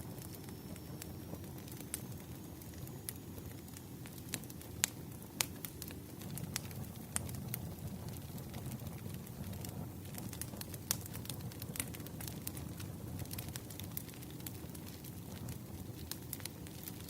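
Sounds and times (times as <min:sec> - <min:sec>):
fire crackles and pops: 0:00.0 - 0:17.0
rush of campfire flames: 0:00.0 - 0:17.0.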